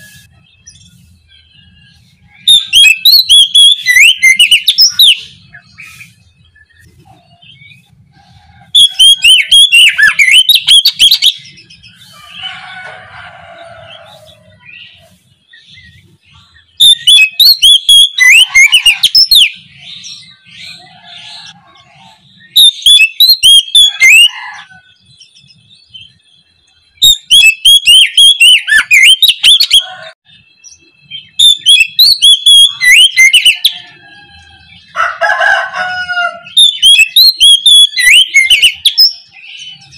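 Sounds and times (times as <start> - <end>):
bird singing whistled notes: 0.0 - 7.9, 8.7 - 12.5, 14.5 - 24.3, 25.0 - 35.0, 36.5 - 39.9.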